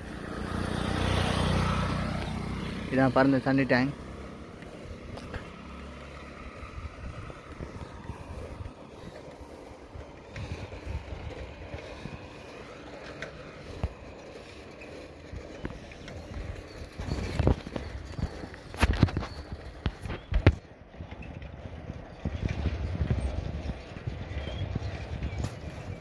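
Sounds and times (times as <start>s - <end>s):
bicycle basket rattling: 0.0s - 26.0s
wind rushing over microphone: 3.9s - 26.0s.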